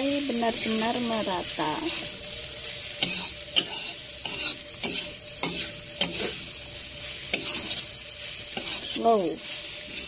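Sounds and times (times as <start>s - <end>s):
hot pan sizzling: 0.0s - 10.0s
metal spatula scraping wok: 0.6s - 10.0s.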